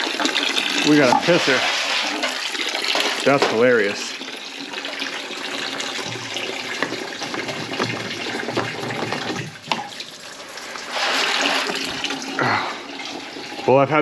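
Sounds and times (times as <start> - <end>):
coolant gushing and splashing: 0.0 - 14.0.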